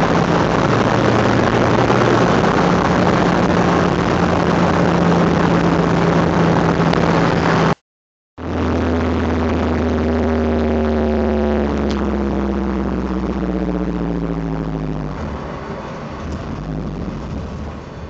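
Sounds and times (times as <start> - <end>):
bass-heavy electronic music: 0.0 - 7.8, 8.4 - 17.9
car cabin engine and road noise: 0.0 - 7.8, 8.4 - 18.0.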